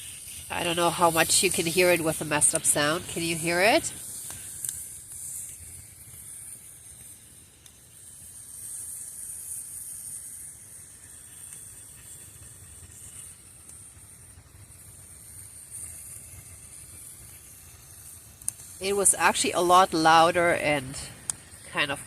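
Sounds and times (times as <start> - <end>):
faint fire crackles: 0.0 - 22.0
fire hissing: 0.0 - 22.0.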